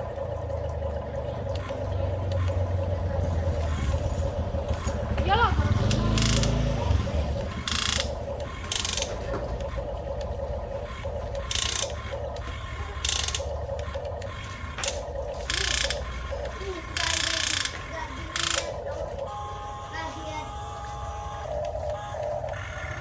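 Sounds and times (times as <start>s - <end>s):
toy geared motors buzzing: 1.2s - 23.0s.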